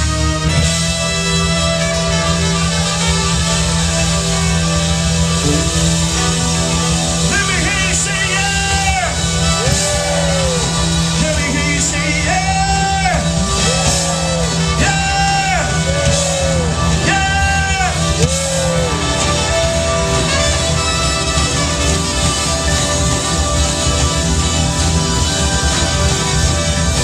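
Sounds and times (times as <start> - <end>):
live soul band playing: 0.0 - 27.0.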